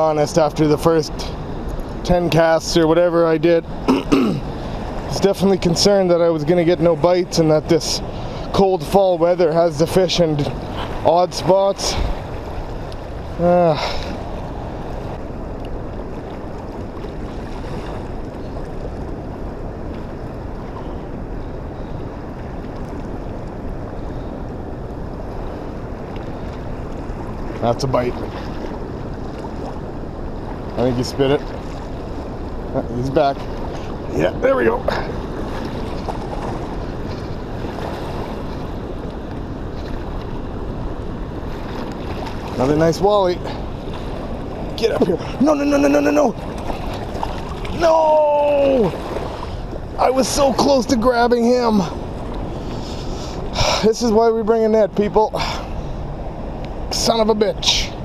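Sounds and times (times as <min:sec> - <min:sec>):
water: 0:00.0 - 0:58.0
wind buffeting microphone: 0:00.0 - 0:58.0.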